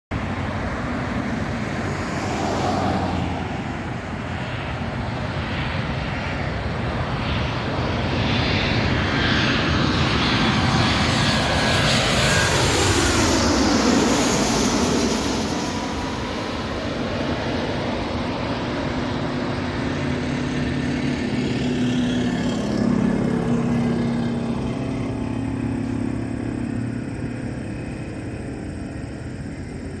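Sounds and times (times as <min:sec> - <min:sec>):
airliner jet engines passing overhead: 0:00.1 - 0:30.0.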